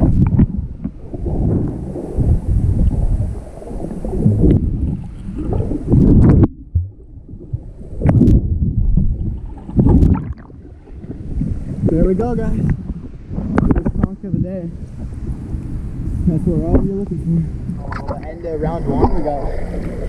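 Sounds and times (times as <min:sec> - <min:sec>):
muffled underwater sloshing: 0:00.0 - 0:20.0
water splashing surges: 0:00.0 - 0:20.0.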